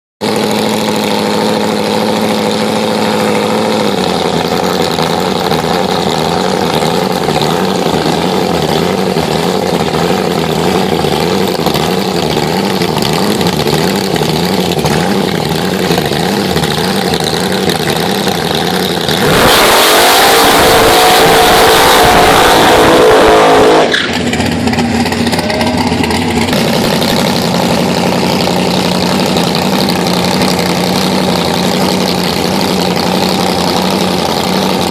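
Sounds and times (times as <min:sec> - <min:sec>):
race car engine revving: 0:00.2 - 0:34.9.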